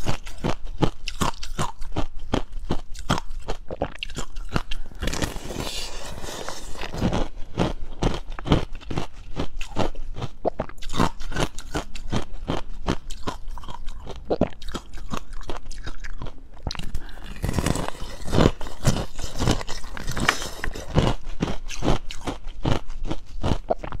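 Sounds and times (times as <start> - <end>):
chewing crunchy ice: 0.0 - 24.0.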